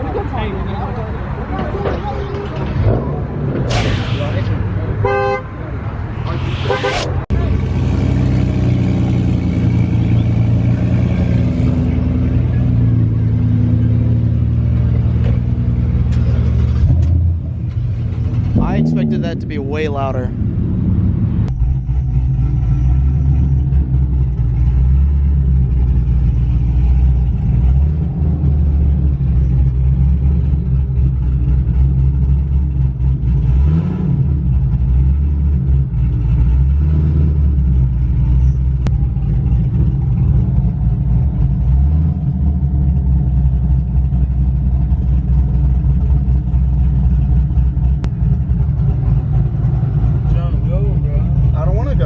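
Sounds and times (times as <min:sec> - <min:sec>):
car engine rumbling and revving: 0:00.0 - 0:52.0.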